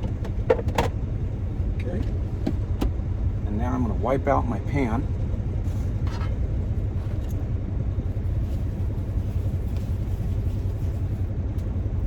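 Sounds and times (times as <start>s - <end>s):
diesel truck idling: 0.0s - 12.0s.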